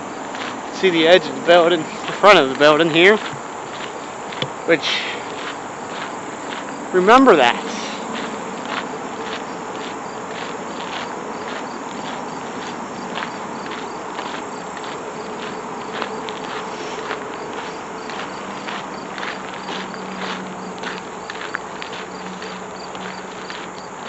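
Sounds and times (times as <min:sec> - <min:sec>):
crickets and insects chirping: 0:00.0 - 0:24.0
soft footsteps: 0:00.0 - 0:24.0.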